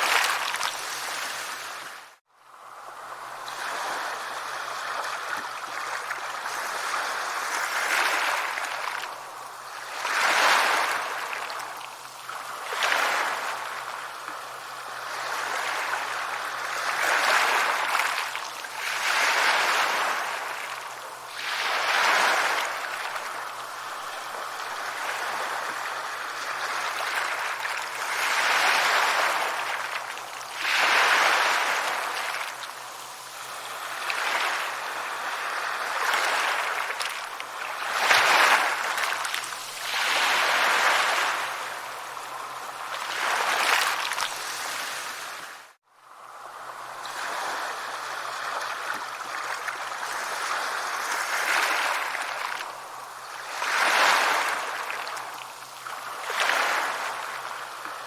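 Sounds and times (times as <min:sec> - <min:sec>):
sea waves washing on shore: 0:00.0 - 0:58.0.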